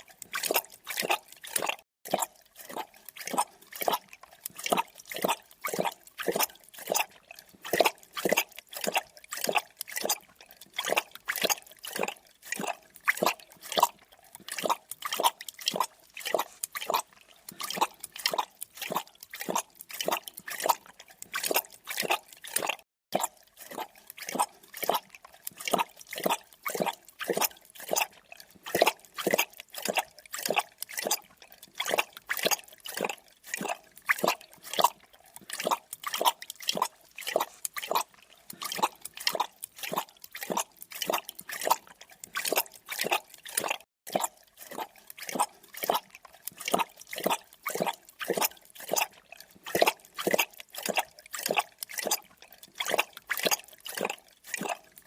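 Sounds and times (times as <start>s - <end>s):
animal lapping liquid: 0.0s - 55.0s.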